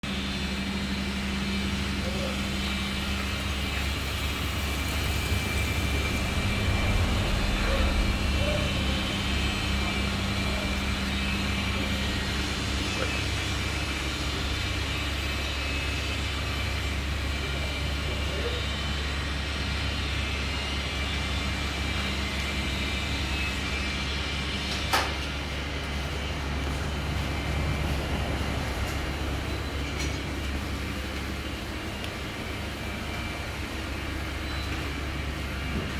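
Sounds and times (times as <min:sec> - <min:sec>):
low machine hum: 0:00.0 - 0:35.9
faint high whine: 0:00.1 - 0:35.9.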